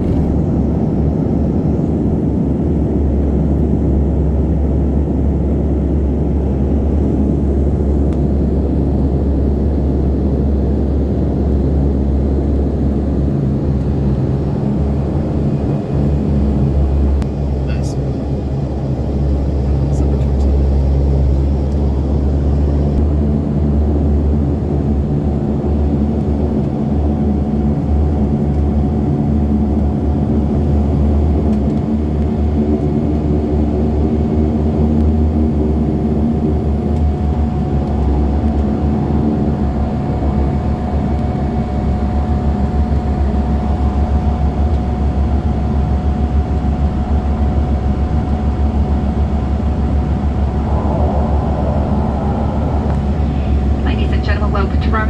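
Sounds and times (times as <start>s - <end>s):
airliner engines droning: 0.0s - 55.0s.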